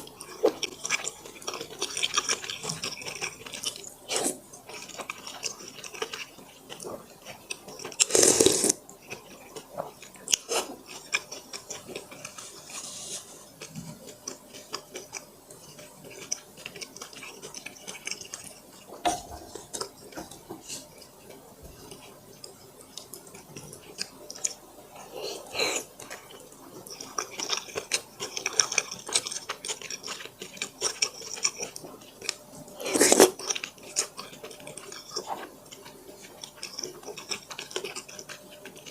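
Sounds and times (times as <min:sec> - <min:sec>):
chewing and wet mouth sounds: 0:00.0 - 0:38.9.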